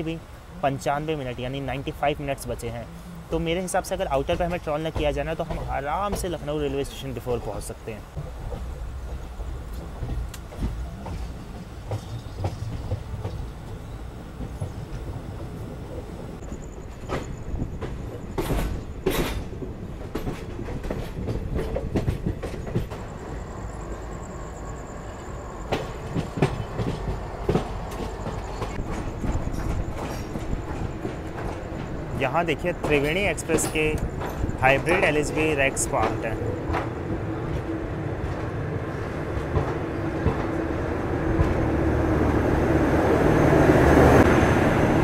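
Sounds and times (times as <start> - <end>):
train wheels rumbling on rail: 0.0 - 45.0
wheels clacking over rail joints: 0.1 - 45.0.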